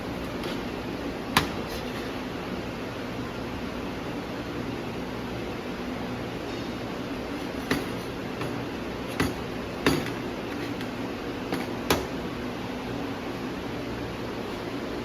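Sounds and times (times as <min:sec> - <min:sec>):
cooling fans humming: 0:00.0 - 0:15.0.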